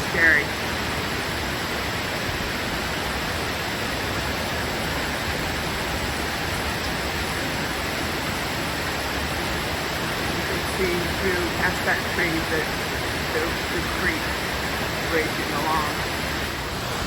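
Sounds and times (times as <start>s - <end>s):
flooded creek water rushing: 0.0s - 17.0s.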